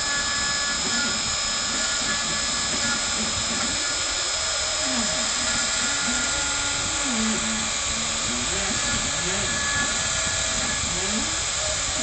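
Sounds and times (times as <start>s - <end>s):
spindle motor whine: 0.0s - 12.0s
stepper motors humming: 0.0s - 12.0s.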